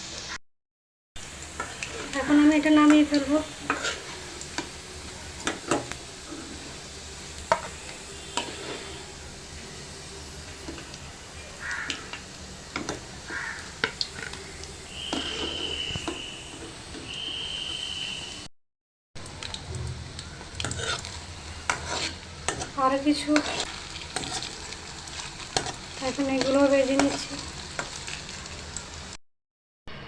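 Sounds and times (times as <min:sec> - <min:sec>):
meatballs sizzling in hot oil: 0:01.2 - 0:17.1, 0:19.2 - 0:29.2.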